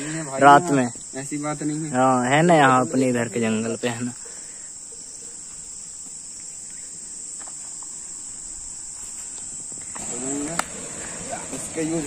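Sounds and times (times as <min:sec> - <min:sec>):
insects chorus shrill drone: 0:00.0 - 0:12.0.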